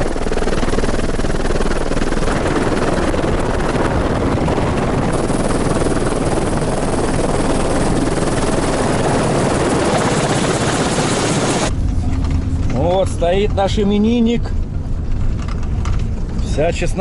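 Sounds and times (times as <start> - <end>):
helicopter rotor and turbine: 0.0 - 17.0.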